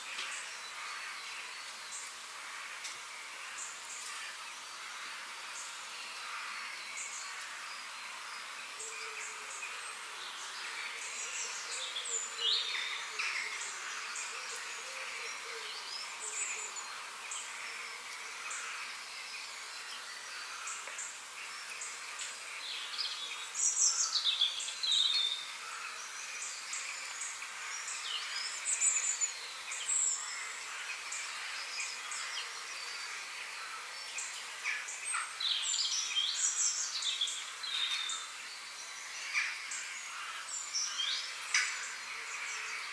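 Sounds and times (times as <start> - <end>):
forest background hiss: 0.0 - 42.9
birds chirping and singing: 0.1 - 42.9.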